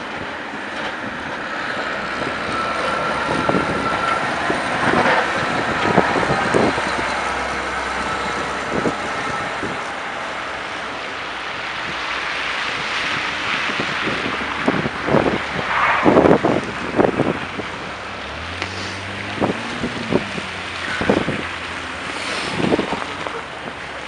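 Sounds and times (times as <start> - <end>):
vehicles passing: 0.0 - 24.0
wind gusting on microphone: 0.0 - 24.0.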